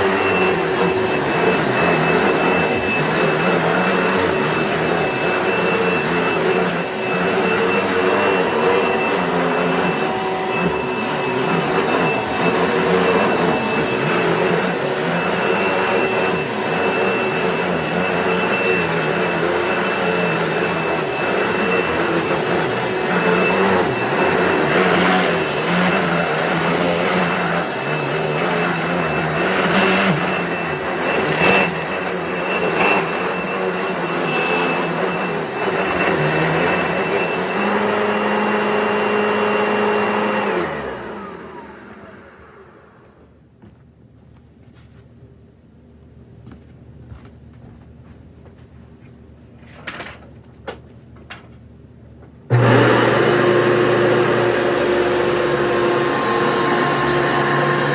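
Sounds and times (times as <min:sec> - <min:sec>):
vacuum cleaner whining: 0:00.0 - 0:43.4, 0:52.5 - 0:57.9.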